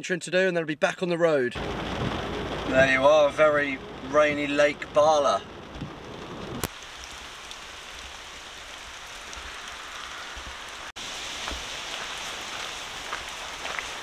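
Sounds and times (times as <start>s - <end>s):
steady rain falling: 1.6s - 14.0s.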